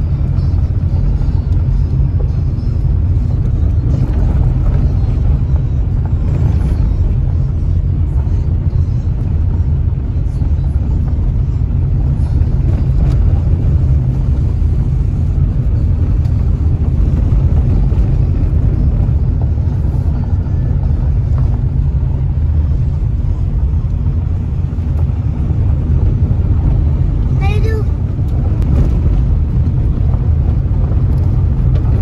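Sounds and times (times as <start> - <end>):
car engine: 0.0 - 32.0.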